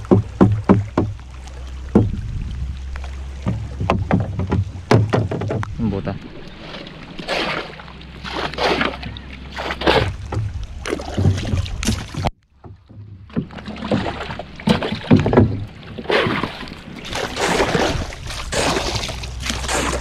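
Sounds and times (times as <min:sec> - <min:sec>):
paddle splashing water: 0:00.0 - 0:20.0.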